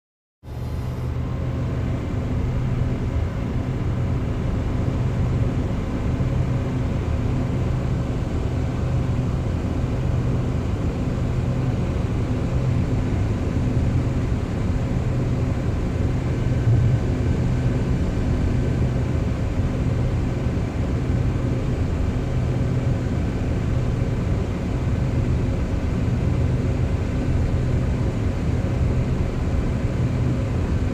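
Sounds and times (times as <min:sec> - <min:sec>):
low machine hum: 0:00.5 - 0:30.9.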